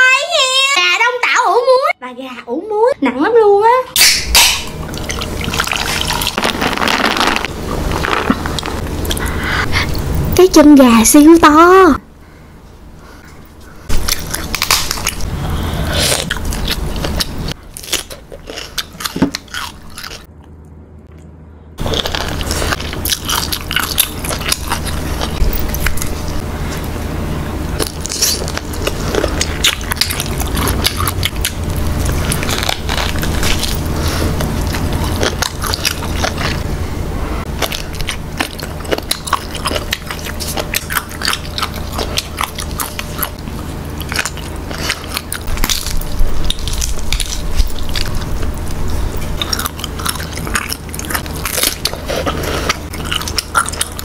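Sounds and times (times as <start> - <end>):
wet chewing and crunching: 4.0 - 9.4, 13.8 - 27.0, 27.7 - 36.7, 37.4 - 54.0.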